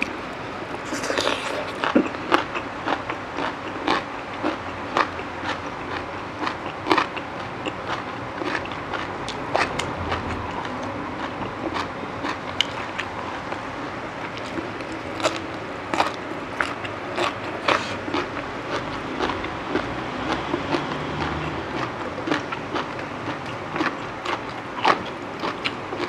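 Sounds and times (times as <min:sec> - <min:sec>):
person chewing crunchy vegetables: 0:00.0 - 0:26.0.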